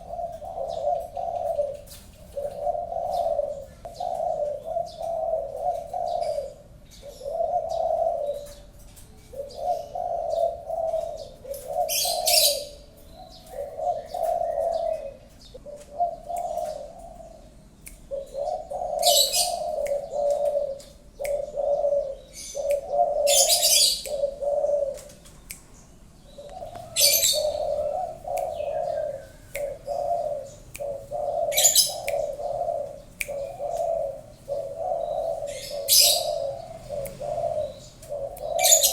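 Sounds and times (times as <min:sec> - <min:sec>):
dove cooing: 0:00.0 - 0:25.4, 0:26.2 - 0:38.9.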